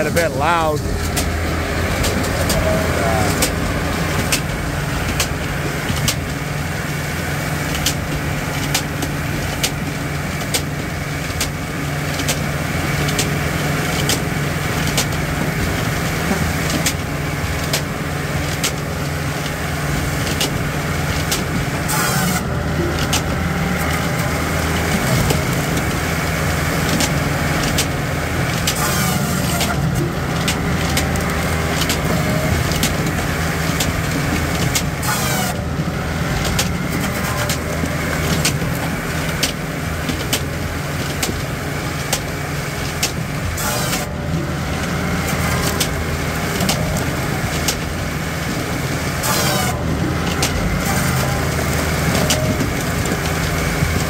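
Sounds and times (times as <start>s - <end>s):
engine and hydraulic drone: 0.0s - 54.0s.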